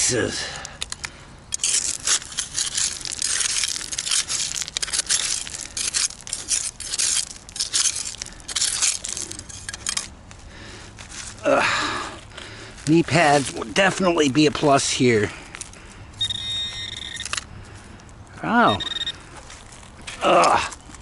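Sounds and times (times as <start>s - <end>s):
gravel crunching and scraping: 0.0s - 21.0s.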